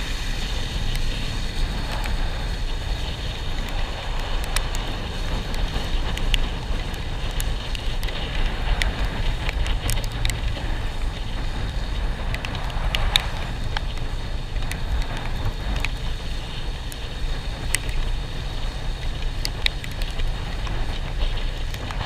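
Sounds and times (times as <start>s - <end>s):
vehicle rumble: 0.0s - 22.0s
wind on microphone: 0.0s - 22.0s
sharp ticks: 2.9s - 22.0s.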